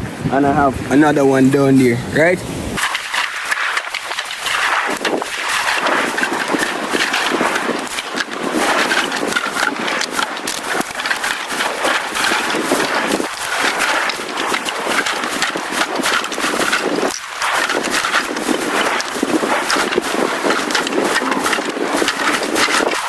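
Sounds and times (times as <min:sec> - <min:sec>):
footsteps crunching on sand: 0:02.8 - 0:23.0.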